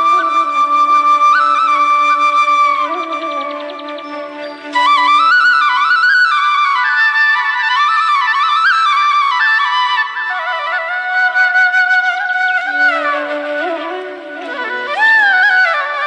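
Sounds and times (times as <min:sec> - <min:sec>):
flute melody: 0:00.0 - 0:16.0.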